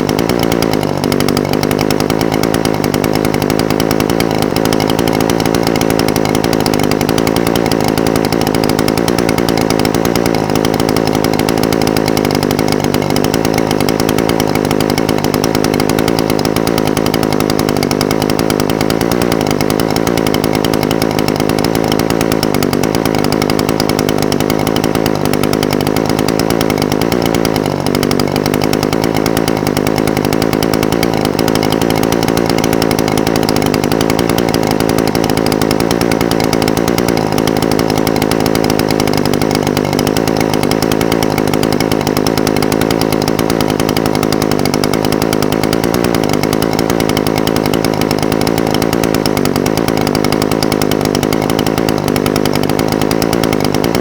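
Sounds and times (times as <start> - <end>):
brush cutter engine idling: 0.0 - 54.0.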